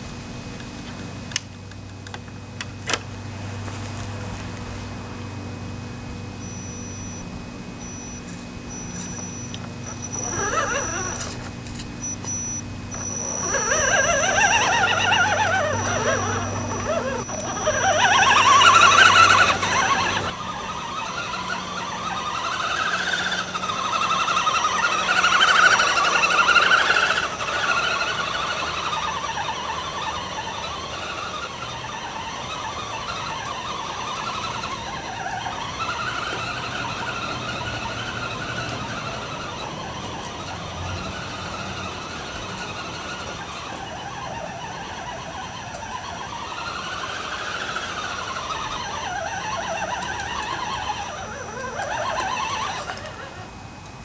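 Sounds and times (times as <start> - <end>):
electric motor whining: 0.0 - 54.0.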